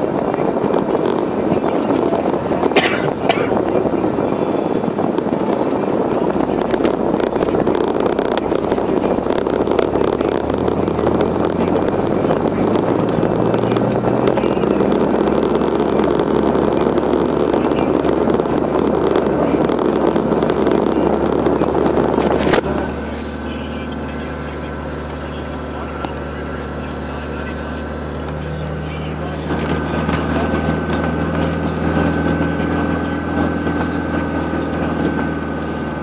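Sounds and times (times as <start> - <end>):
road and engine noise in cabin: 0.0 - 36.0.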